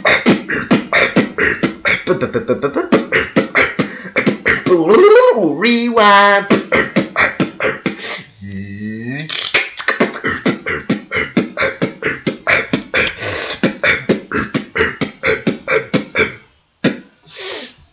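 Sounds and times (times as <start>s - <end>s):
buzzing bass beatbox tone: 0.0s - 4.8s, 6.4s - 17.1s
percussive beatbox mouth beats: 0.0s - 5.0s, 6.4s - 17.8s.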